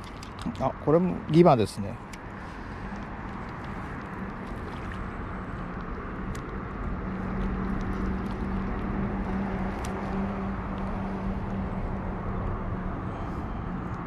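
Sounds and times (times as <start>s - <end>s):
outdoor noise: 0.0s - 14.0s.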